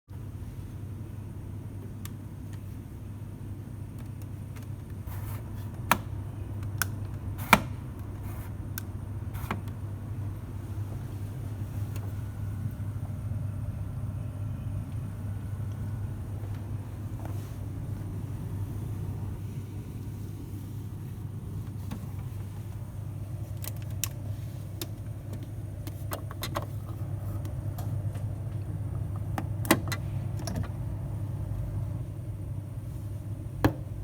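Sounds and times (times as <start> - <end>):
coffee machine humming: 0.1 - 34.0.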